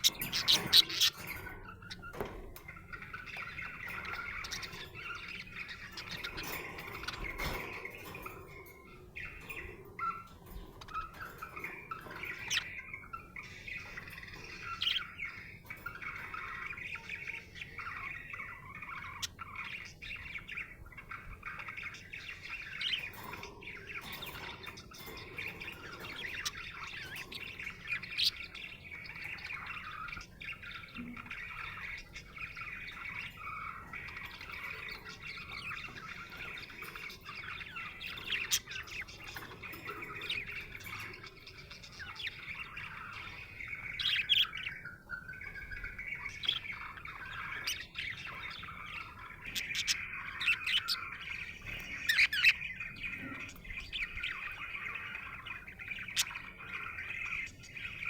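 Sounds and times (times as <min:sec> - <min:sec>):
budgerigar chirping and warbling: 0:00.0 - 0:58.0.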